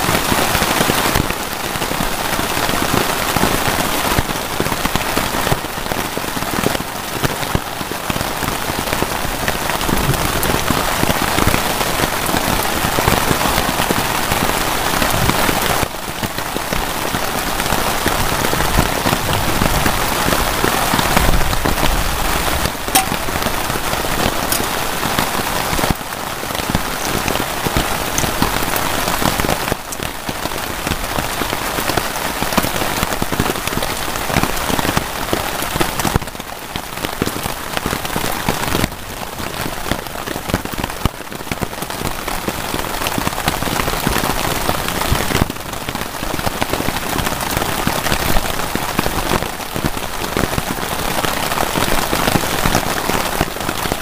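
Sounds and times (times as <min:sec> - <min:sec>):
heavy rain on tarpaulin: 0:00.0 - 0:54.0.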